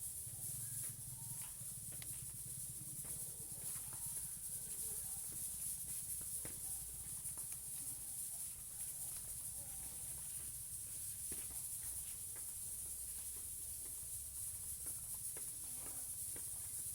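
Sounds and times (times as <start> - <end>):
high-pitched hiss: 0.0 - 16.9.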